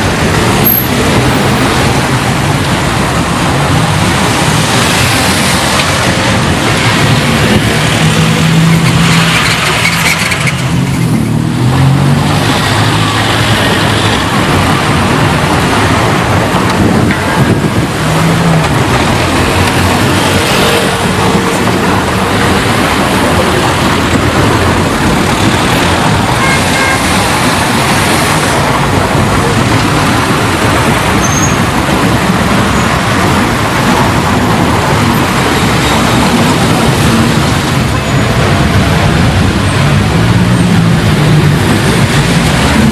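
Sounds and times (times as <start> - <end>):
vehicles passing: 0.0 - 42.9.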